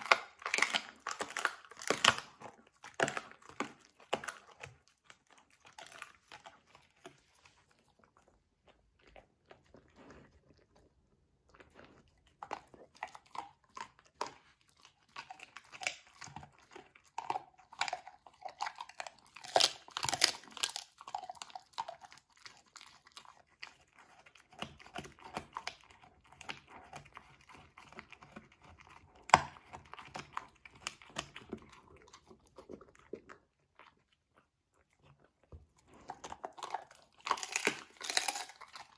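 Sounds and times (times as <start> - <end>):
dog chewing hard treat: 0.0 - 38.9.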